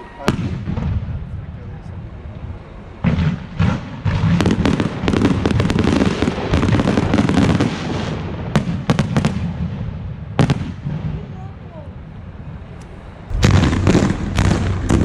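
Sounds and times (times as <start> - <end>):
fireworks bangs and crackles: 0.2 - 11.8, 13.2 - 15.0.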